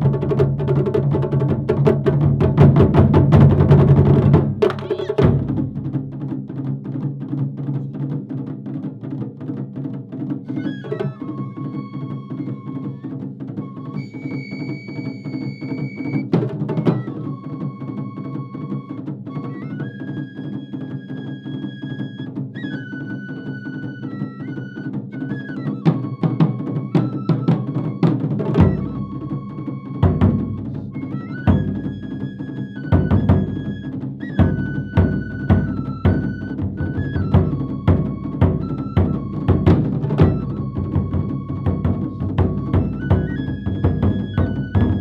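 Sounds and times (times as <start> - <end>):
drum ensemble playing: 0.0 - 11.8, 12.4 - 17.2, 24.6 - 45.0.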